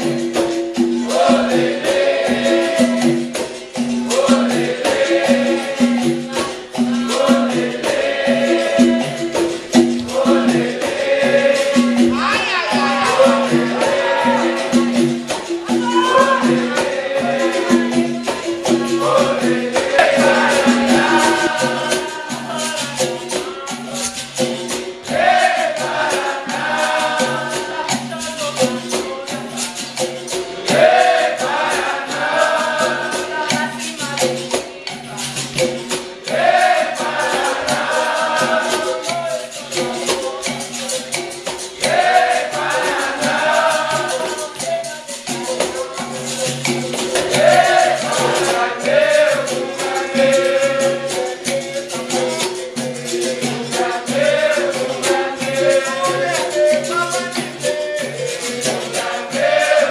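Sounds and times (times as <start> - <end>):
berimbaus and pandeiro rhythm: 0.0 - 59.9
call-and-response singing: 1.0 - 29.8, 30.6 - 35.0, 36.2 - 59.9.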